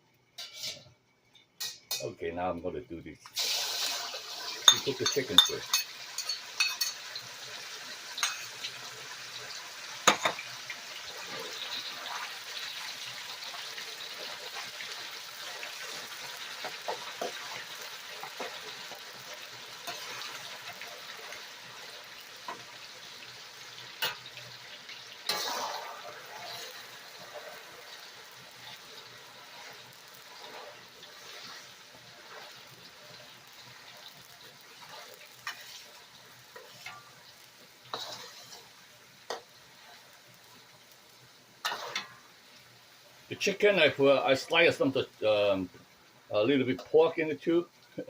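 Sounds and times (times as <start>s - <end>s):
chicken sizzling in hot oil: 3.3s - 48.0s.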